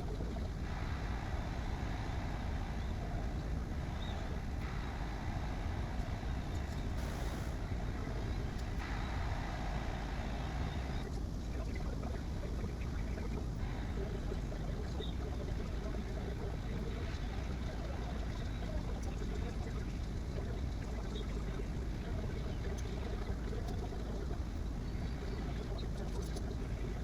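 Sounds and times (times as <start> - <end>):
print head whirring: 0.0 - 12.8, 13.4 - 23.4
machine rumble and fan hiss: 0.0 - 27.0.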